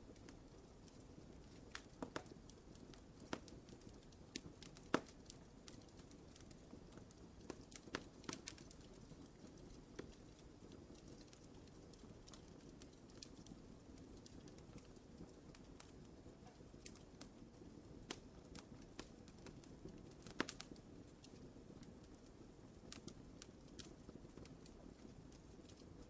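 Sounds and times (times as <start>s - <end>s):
steady rush of burning: 0.0s - 26.0s
wood fire crackling: 0.0s - 26.0s.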